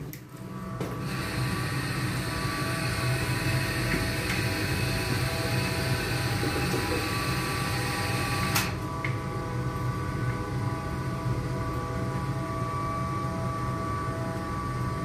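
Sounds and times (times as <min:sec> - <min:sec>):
boiler motor hum: 0:00.0 - 0:15.0.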